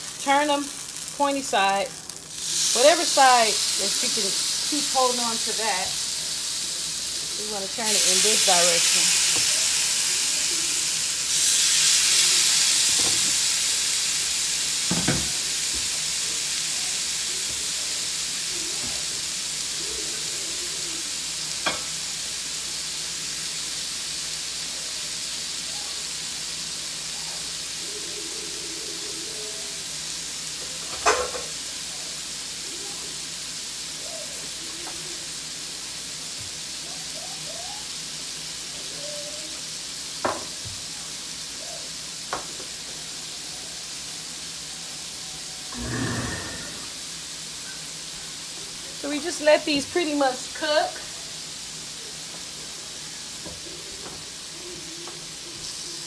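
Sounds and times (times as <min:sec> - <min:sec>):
chicken skewers sizzling on grill: 0:00.0 - 0:56.0.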